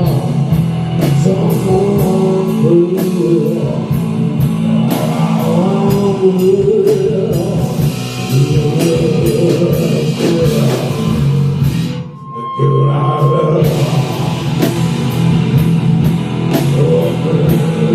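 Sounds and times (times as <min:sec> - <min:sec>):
rock band playing loudly: 0:00.0 - 0:12.4, 0:13.2 - 0:17.9
high held tone: 0:00.0 - 0:17.9.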